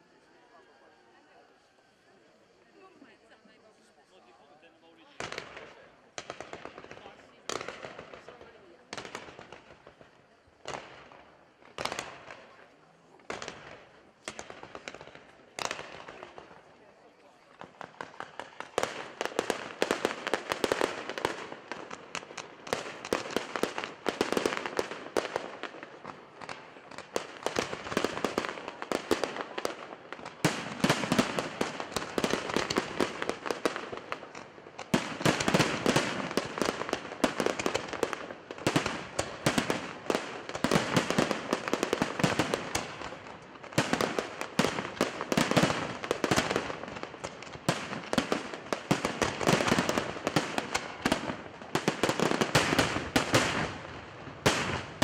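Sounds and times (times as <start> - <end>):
fireworks bangs and crackling: 4.7 - 55.0.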